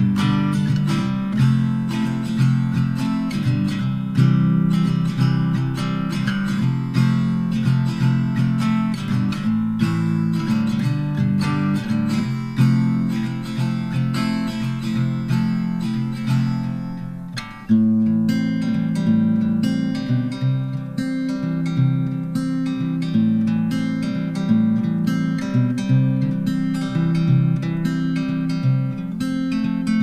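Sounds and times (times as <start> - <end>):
strummed acoustic guitar: 0.0 - 30.0.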